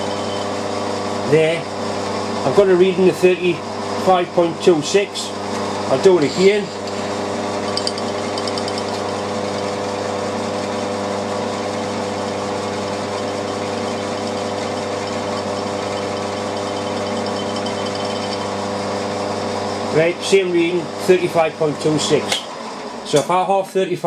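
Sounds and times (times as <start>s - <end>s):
milling machine motor hum: 0.0s - 21.8s.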